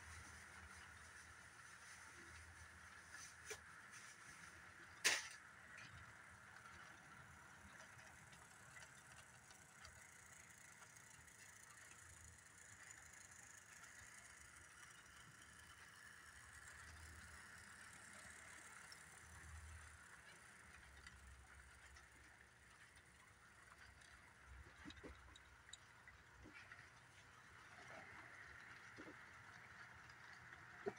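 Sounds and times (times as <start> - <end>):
model train motor whirring: 0.0 - 30.9
wheels rolling on track: 0.0 - 30.9.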